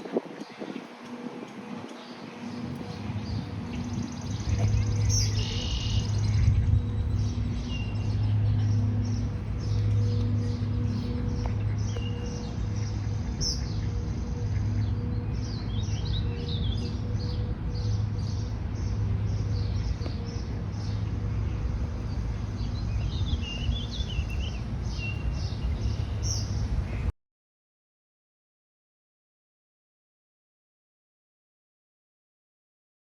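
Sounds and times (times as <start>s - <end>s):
small birds chirping: 0.0s - 27.1s
steady low hum: 0.0s - 27.1s.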